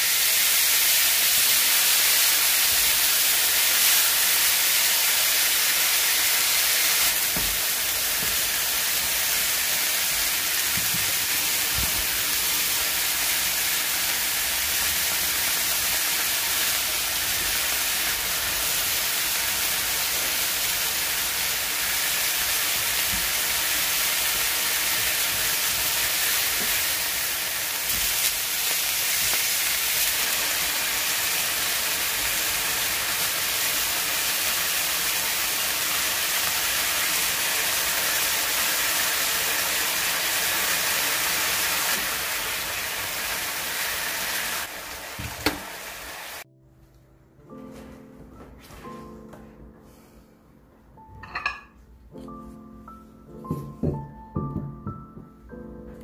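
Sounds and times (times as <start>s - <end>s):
food sizzling in a pan: 0.0s - 46.5s.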